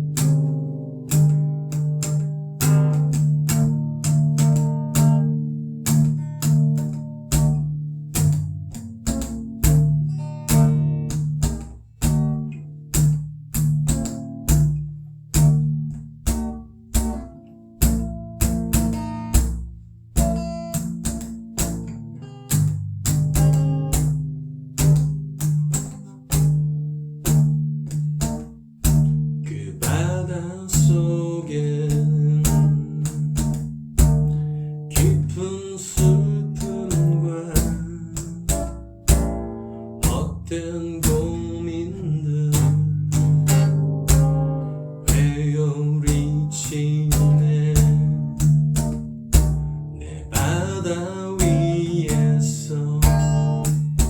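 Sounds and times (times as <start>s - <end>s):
guitar notes: 0.0s - 54.0s.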